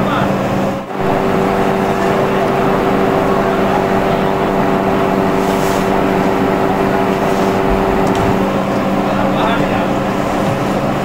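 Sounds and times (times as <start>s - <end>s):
machinery hum: 0.0s - 11.0s
rushing noise: 0.9s - 9.8s.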